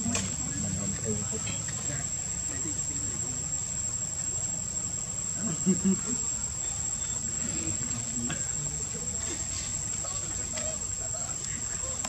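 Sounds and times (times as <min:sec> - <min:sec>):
insect trilling: 0:00.1 - 0:12.0.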